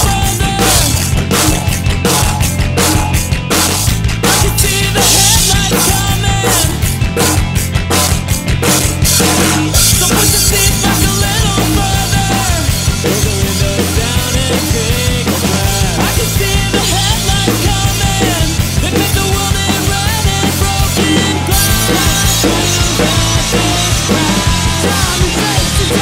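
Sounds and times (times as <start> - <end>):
drum kit played hard: 0.0 - 26.0
punk rock song: 0.0 - 26.0.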